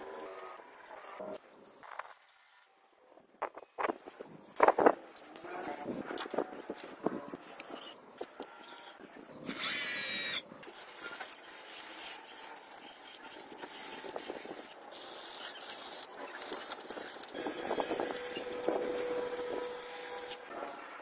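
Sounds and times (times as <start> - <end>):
small electric motors whirring: 3.8 - 20.7.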